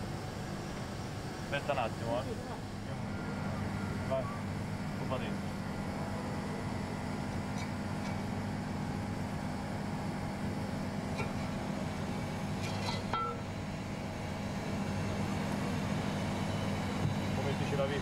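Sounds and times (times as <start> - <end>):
workshop machinery hum: 0.0 - 18.0.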